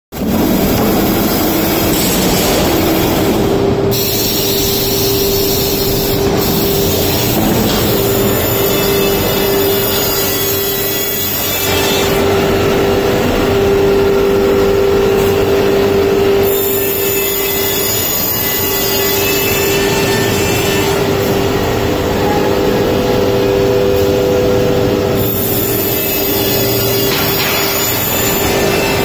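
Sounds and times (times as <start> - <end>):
cutting machine humming: 0.2 - 29.0.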